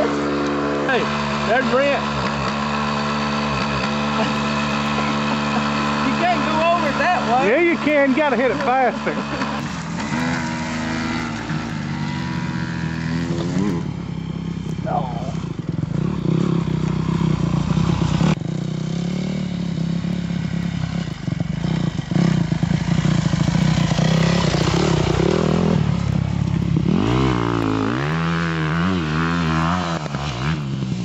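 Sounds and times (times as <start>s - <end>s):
two-stroke engine running and revving: 0.0s - 31.0s.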